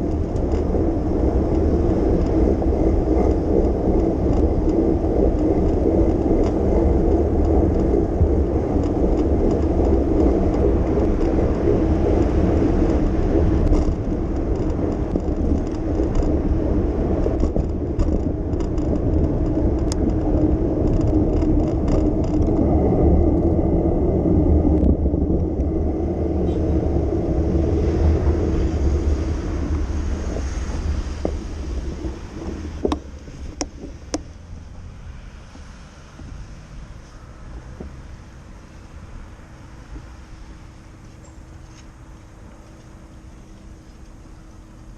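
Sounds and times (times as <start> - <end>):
bicycle tyres on road: 0.0 - 44.9
passing vehicles: 0.0 - 44.9
wind buffeting microphone: 0.0 - 44.9.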